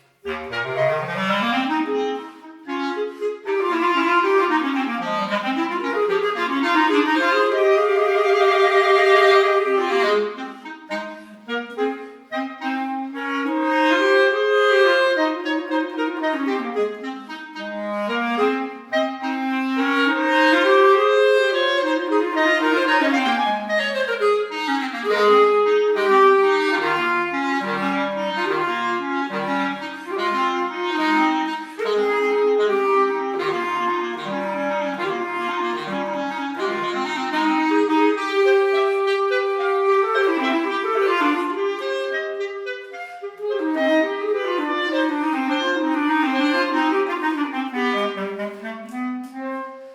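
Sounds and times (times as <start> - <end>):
clarinet duet: 0.0 - 49.9.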